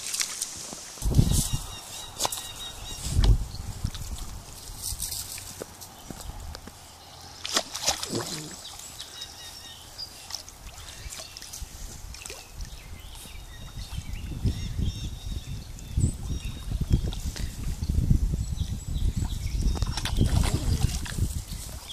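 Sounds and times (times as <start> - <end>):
water sloshing and trickling: 0.0 - 14.7, 15.6 - 21.9.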